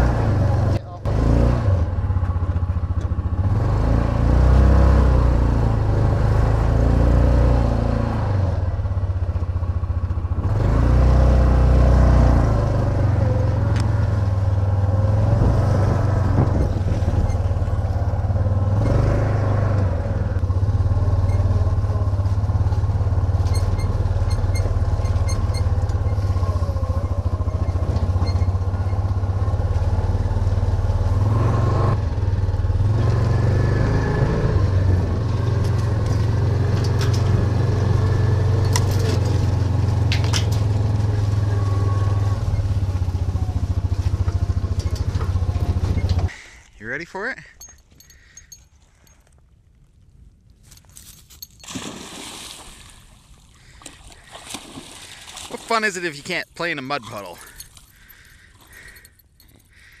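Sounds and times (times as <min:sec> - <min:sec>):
utility vehicle engine under load: 0:00.0 - 0:46.5, 0:53.6 - 1:00.0.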